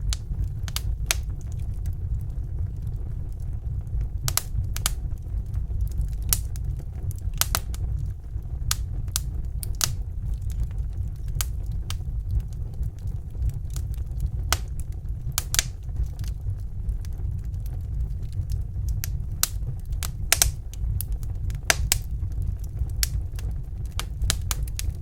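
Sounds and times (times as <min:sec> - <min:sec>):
fire snapping and popping: 0:00.0 - 0:25.0
low rumble of fire: 0:00.0 - 0:25.0.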